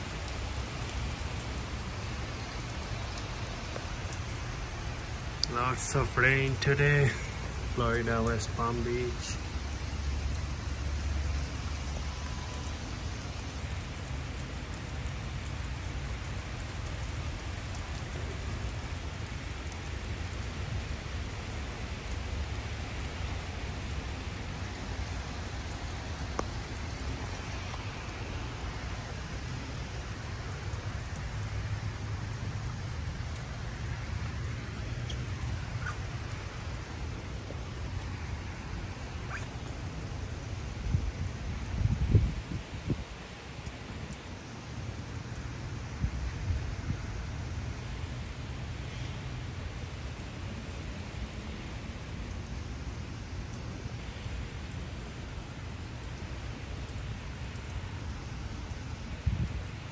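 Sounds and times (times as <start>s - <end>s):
heavy rain on pavement and cars: 0.0s - 59.9s.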